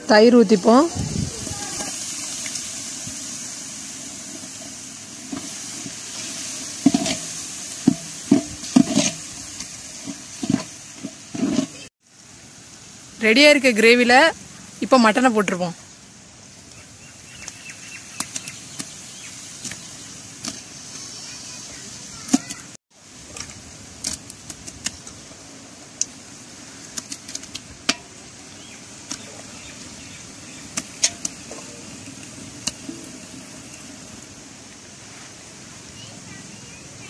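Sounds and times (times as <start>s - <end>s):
wood fire crackling: 0.0s - 35.5s.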